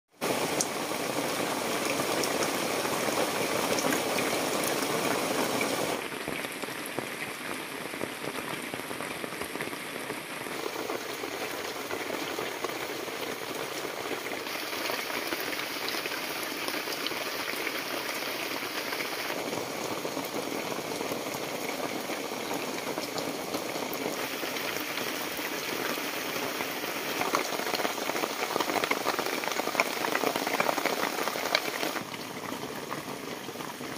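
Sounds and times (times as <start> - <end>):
heavy rain: 0.2 - 33.9.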